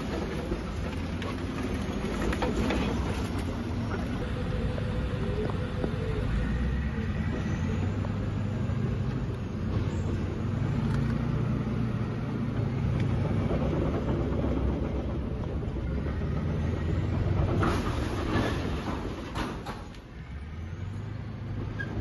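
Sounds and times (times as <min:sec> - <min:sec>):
bulldozer diesel engine rumble: 0:00.0 - 0:22.0.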